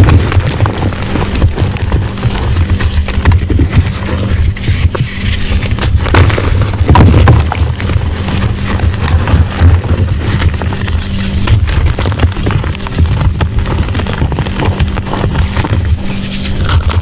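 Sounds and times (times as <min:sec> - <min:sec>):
chalk crunching and crackling: 0:00.0 - 0:17.0
steady low hum: 0:00.0 - 0:17.0.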